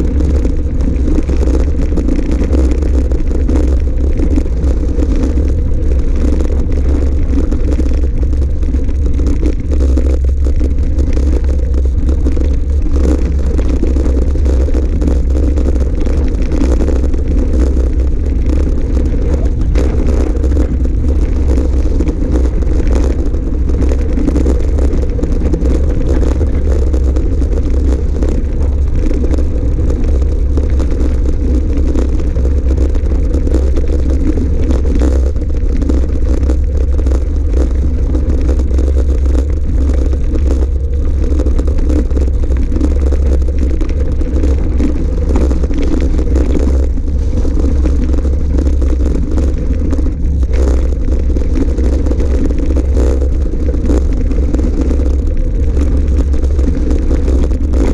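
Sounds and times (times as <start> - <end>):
bike tyres on gravel: 0.0 - 57.9
wind rumble on microphone: 0.0 - 57.9.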